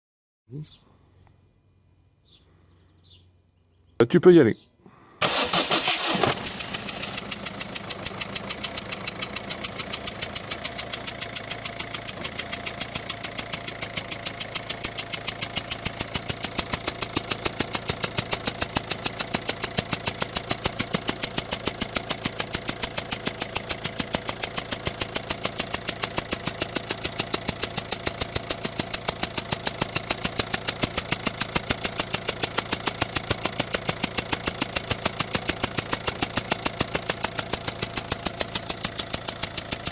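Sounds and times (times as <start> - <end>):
diesel engine idling: 5.0 - 39.9.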